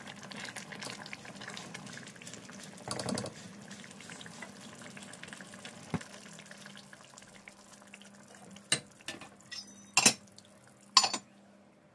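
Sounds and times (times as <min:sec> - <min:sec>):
stew bubbling in a pot: 0:00.0 - 0:11.3.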